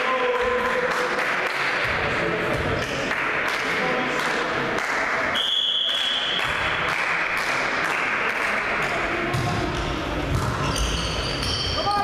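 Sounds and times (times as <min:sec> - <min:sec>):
crowd noise in a hall: 0:00.0 - 0:12.0.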